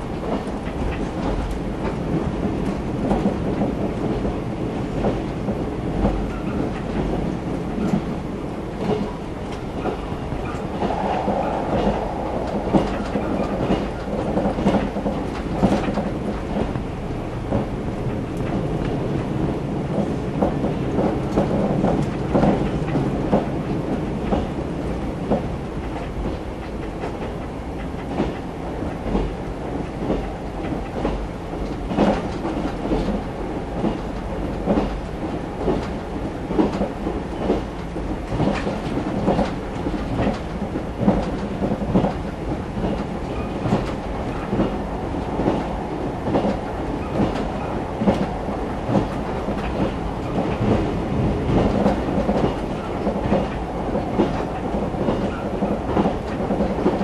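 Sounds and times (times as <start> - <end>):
train rumbling inside passenger car: 0.0 - 57.0.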